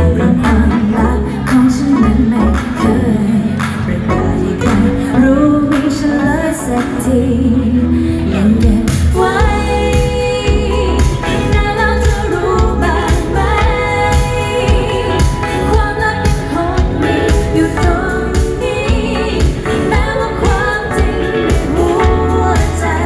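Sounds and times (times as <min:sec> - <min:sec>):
live pop band playing: 0:00.0 - 0:23.0
woman singing: 0:00.0 - 0:23.0.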